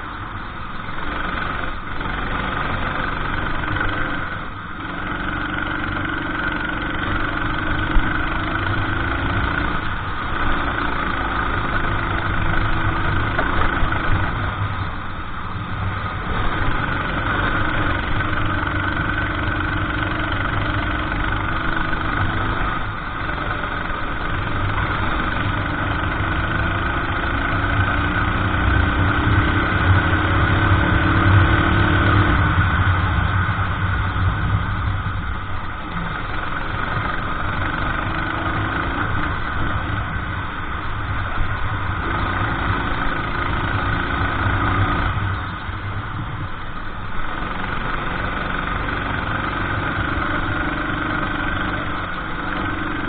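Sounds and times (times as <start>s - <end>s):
kart engine accelerating: 0.8s - 53.0s.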